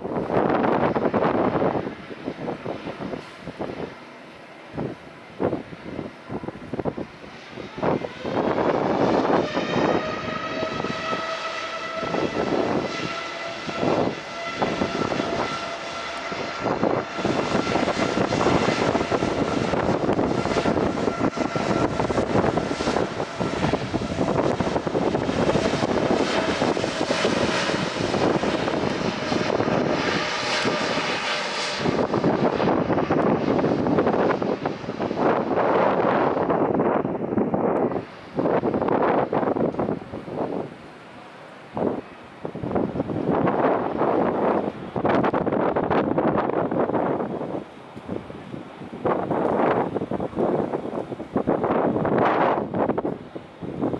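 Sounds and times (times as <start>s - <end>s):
high whining fan tones: 0.0s - 53.9s
jet engines roaring: 0.0s - 53.9s.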